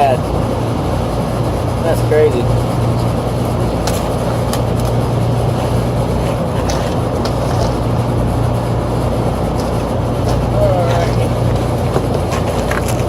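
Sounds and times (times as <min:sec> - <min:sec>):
air conditioner low hum: 0:00.0 - 0:13.0.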